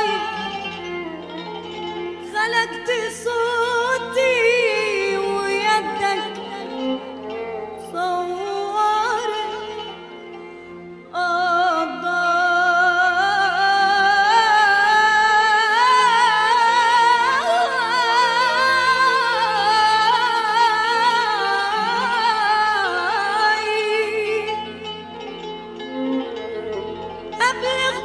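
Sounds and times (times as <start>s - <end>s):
woman singing wordless melisma: 0.0s - 25.7s, 26.4s - 28.0s.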